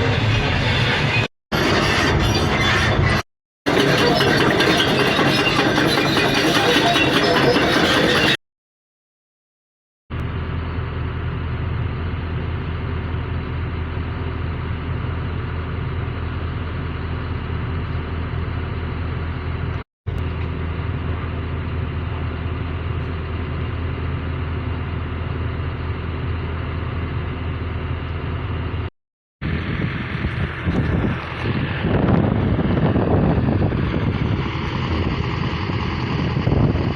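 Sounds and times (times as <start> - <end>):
diesel excavator engine running: 0.0 - 8.4, 10.1 - 36.9.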